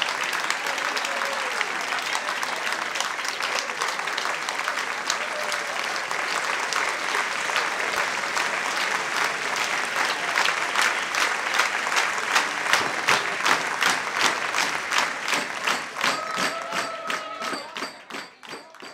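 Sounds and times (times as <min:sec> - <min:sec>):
audience applauding: 0:00.0 - 0:18.9
rhythmic clapping in time: 0:01.8 - 0:18.9.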